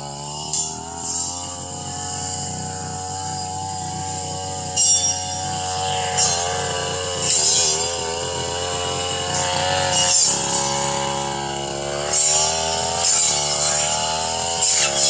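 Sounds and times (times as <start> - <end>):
brush cutter engine cutting brush: 0.0 - 15.0.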